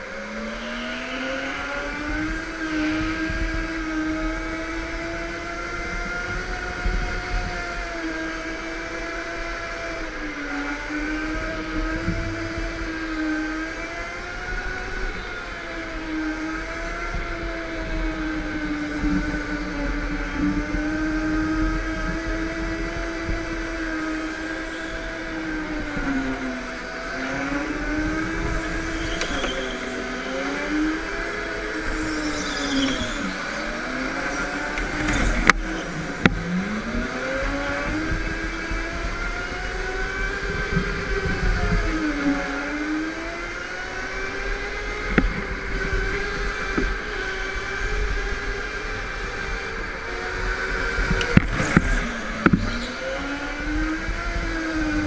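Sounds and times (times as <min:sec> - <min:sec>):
go-kart motor revving: 0:00.0 - 0:55.0.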